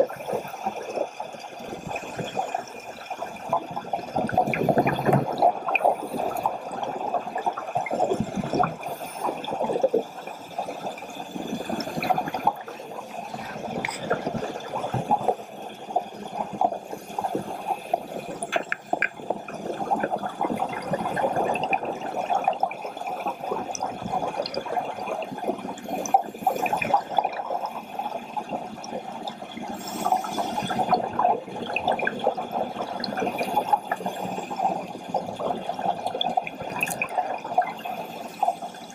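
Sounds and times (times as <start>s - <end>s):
fine underwater crackle: 0.0s - 38.9s
regulator bubbles gurgling underwater: 0.0s - 38.9s.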